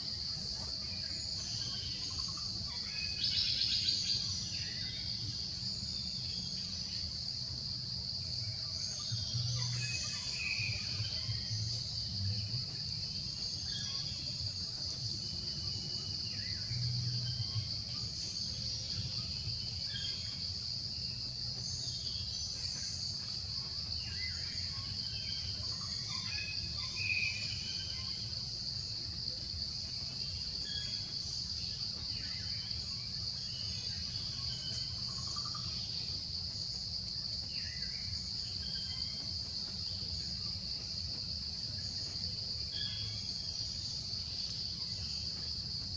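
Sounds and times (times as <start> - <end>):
insects trilling: 0.0 - 45.9.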